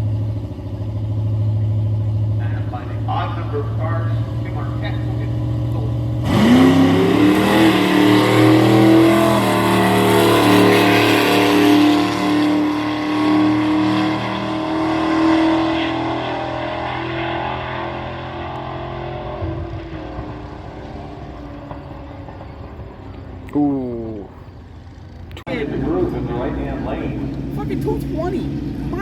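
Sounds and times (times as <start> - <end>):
drag racing car engine: 0.0 - 29.0.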